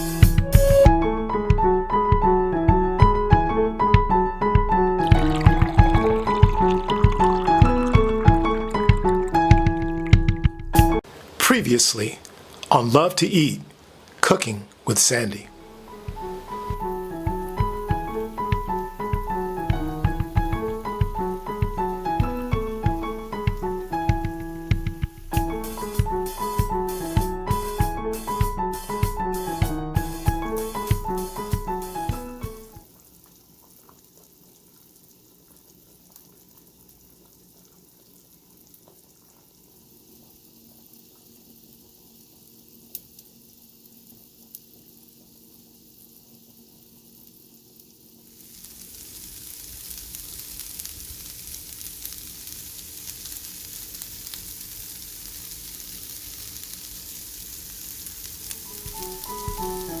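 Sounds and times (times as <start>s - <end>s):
food sizzling in a pan: 0.0s - 0.9s, 4.8s - 12.7s, 14.8s - 60.0s.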